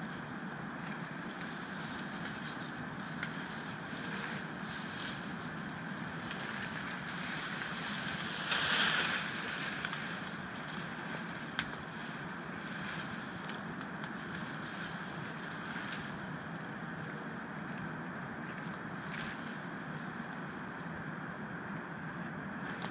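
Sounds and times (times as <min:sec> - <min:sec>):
rustle: 0:00.0 - 0:22.9.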